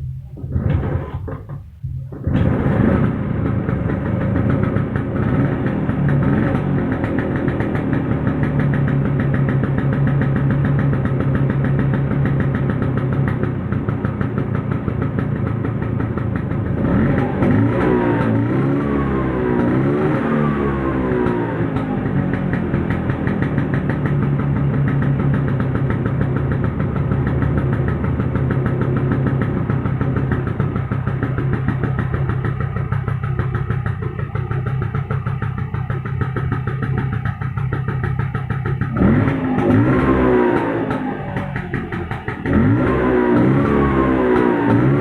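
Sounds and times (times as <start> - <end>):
scooter engine revving and idling: 0.0 - 45.0.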